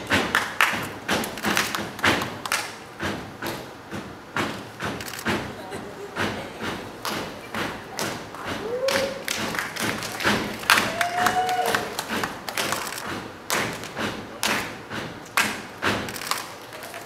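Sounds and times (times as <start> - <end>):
beatboxing kick and snare: 0.0 - 5.6, 6.2 - 10.9, 12.0 - 16.4.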